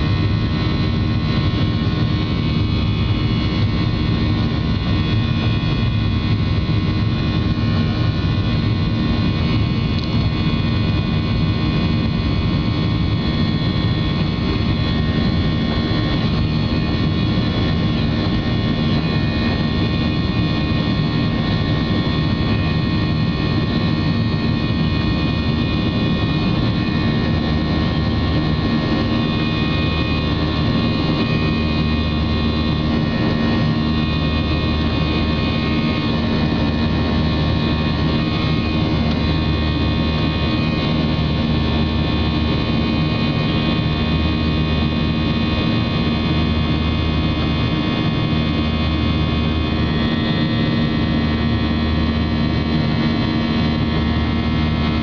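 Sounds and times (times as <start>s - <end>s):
jet engines droning in cabin: 0.0s - 55.0s.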